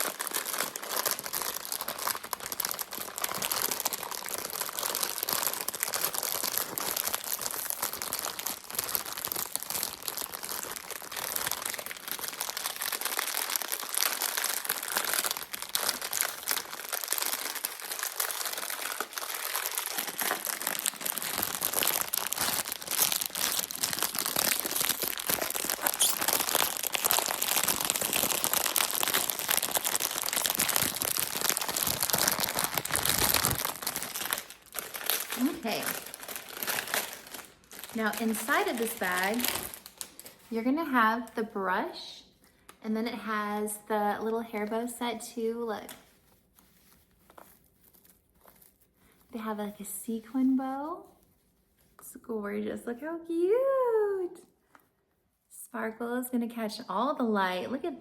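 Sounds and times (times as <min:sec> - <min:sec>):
bubble wrap crackling: 0:00.0 - 0:41.6, 0:43.4 - 0:52.2.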